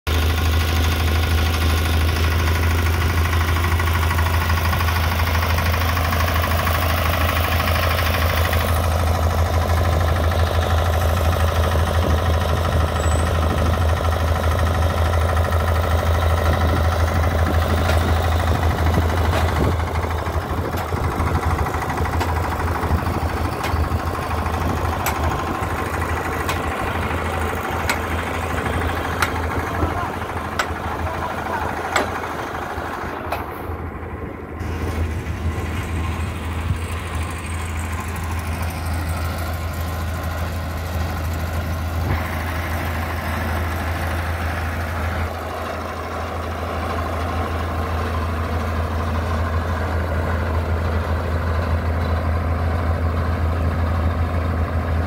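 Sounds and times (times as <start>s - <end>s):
drilling rig engine humming: 0.1s - 55.0s.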